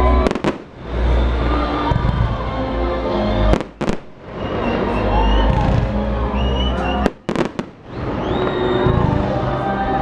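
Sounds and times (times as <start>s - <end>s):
fireworks bursts: 0.0s - 2.6s, 3.3s - 10.0s
crowd noise: 0.0s - 10.0s
music playing: 0.0s - 10.0s.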